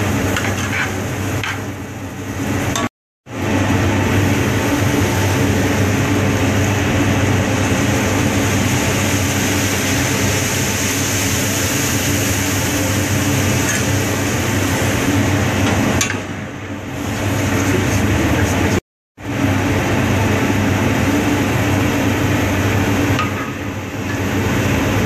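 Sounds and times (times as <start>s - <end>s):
ventilation fan drone: 0.0s - 25.0s.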